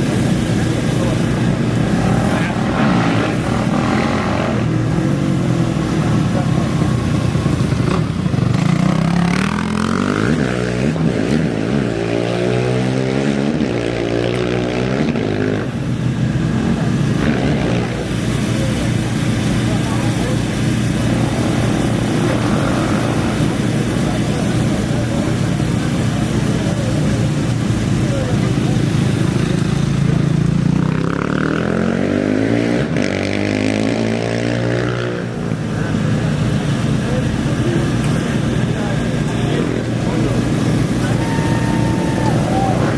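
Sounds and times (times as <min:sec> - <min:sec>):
low engine rumble: 0:00.0 - 0:12.4, 0:14.3 - 0:31.8, 0:35.2 - 0:42.9
off-road engines revving: 0:00.0 - 0:42.9.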